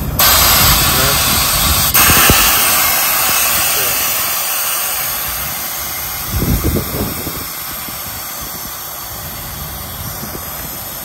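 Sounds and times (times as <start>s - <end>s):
diesel truck engine idling: 0.0s - 11.0s
steady hiss: 0.0s - 11.0s.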